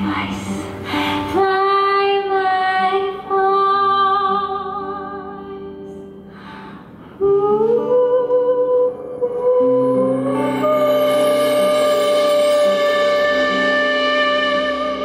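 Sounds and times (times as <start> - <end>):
woman singing: 0.0 - 5.8, 7.2 - 15.0
guitar chords: 0.0 - 15.0.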